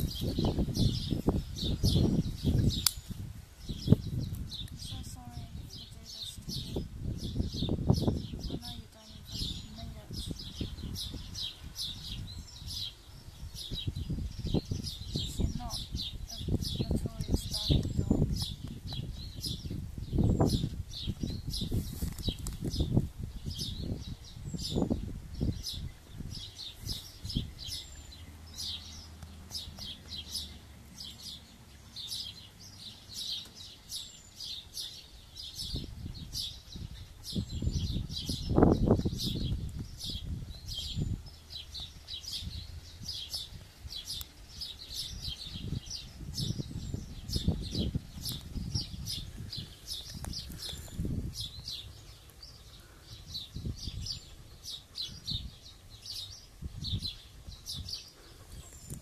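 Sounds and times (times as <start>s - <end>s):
wind on microphone: 0.0s - 30.4s, 34.0s - 59.0s
small birds chirping: 0.0s - 59.0s.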